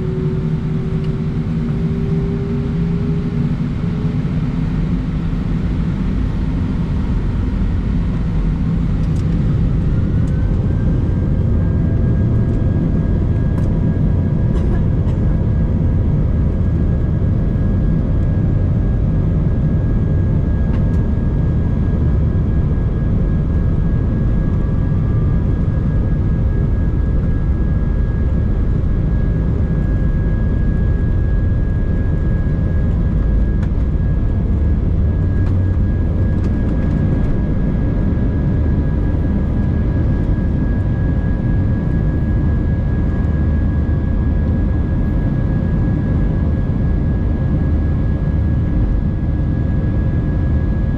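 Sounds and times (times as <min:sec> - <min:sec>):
jet engines and airflow roar: 0:00.0 - 0:50.9.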